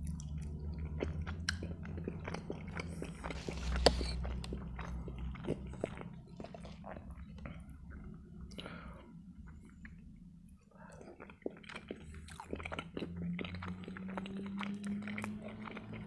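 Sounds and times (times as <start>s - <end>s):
close chewing with mouth clicks: 0.0s - 8.6s, 9.4s - 16.0s.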